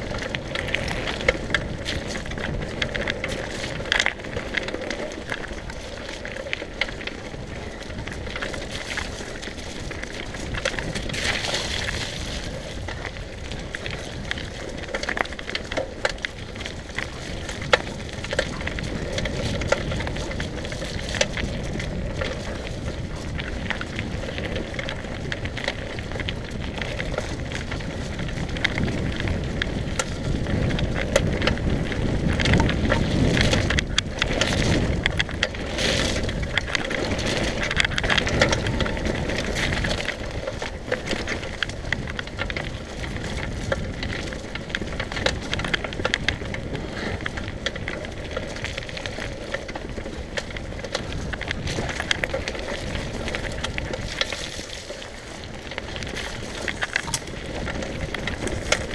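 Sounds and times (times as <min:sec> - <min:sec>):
bike rattling over bumps: 0:00.0 - 0:58.9
bike tyres on dirt trail: 0:00.0 - 0:58.9.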